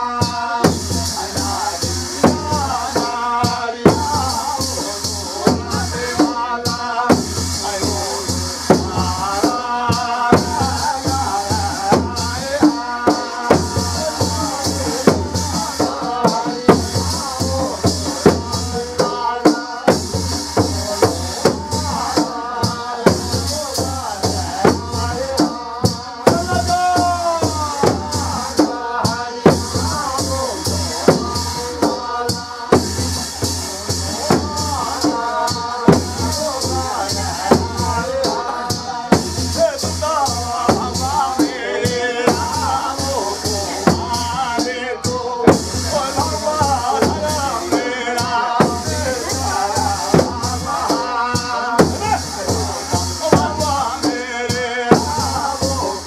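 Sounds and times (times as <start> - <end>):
drum beats: 0.0 - 56.0
high jingling percussion: 0.0 - 56.0
person singing: 0.0 - 56.0.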